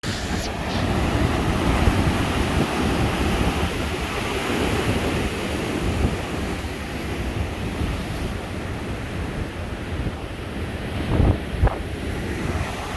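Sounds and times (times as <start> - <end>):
wind rumble on microphone: 0.0 - 12.9.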